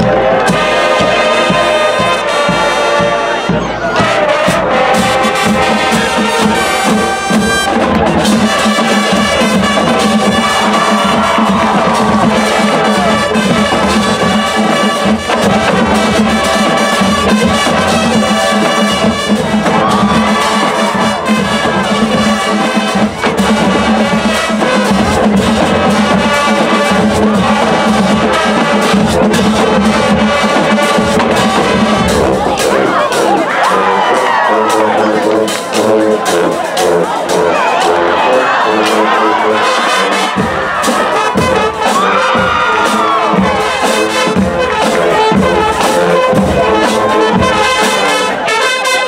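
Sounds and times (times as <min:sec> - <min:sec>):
marching band playing: 0:00.0 - 0:49.0.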